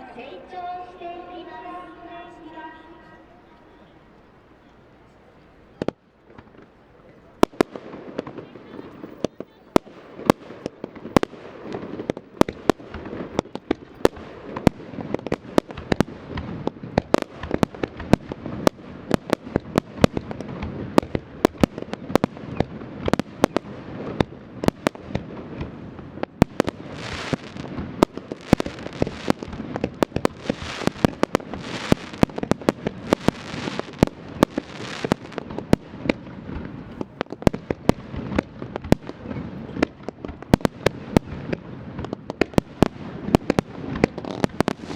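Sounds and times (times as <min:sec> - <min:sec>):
fireworks bursts and crackling bangs: 0:00.0 - 0:44.9.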